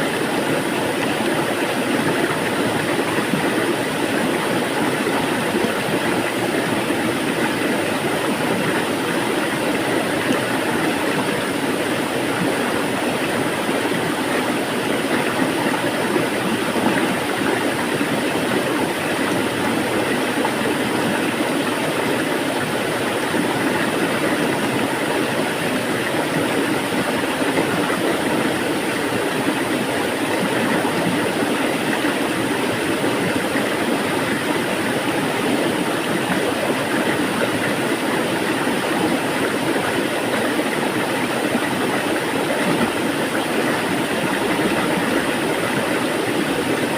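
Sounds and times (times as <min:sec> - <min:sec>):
water rushing: 0:00.0 - 0:46.9.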